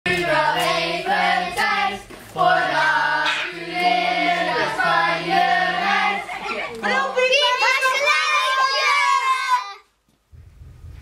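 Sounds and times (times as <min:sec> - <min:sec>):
children singing together: 0:00.1 - 0:09.7.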